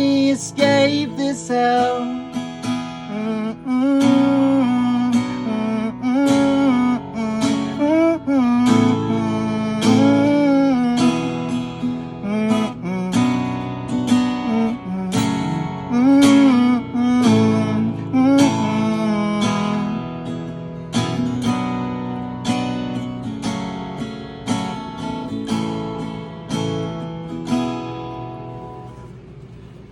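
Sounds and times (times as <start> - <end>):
acoustic guitar strummed chords: 0.0 - 29.9.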